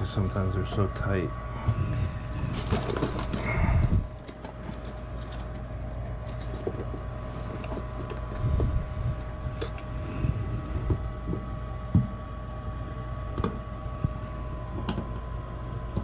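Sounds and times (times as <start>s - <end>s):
furnace motor humming: 0.0s - 16.0s.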